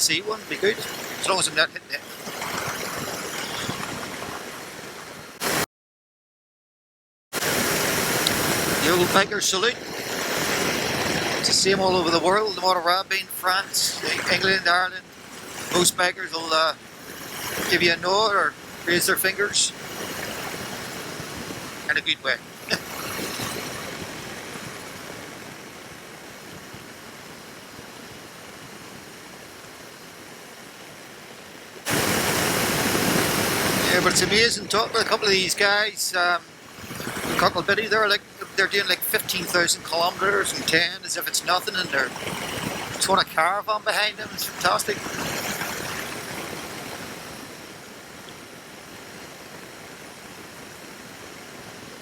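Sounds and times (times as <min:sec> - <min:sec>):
wind and road noise: 0:00.0 - 0:05.6, 0:07.4 - 0:52.0.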